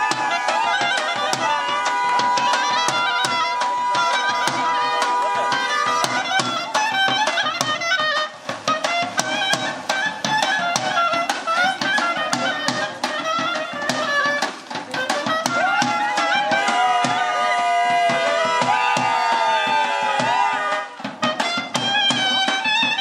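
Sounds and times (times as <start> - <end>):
steady drum beat: 0.0 - 23.0
wind instrument folk melody: 0.0 - 23.0.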